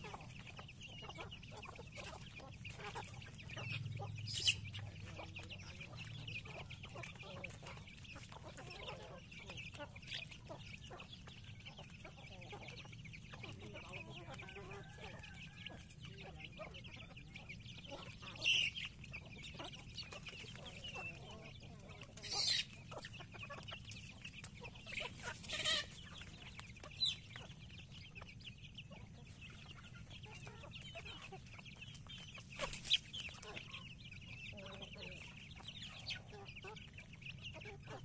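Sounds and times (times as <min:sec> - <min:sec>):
chicks cheeping: 0:00.0 - 0:38.0
hens clucking: 0:00.0 - 0:38.0.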